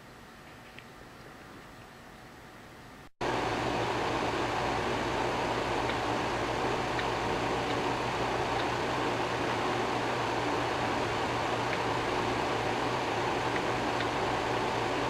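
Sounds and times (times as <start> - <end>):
low hum: 0.0 - 15.0
machine fan whirring: 0.0 - 15.0.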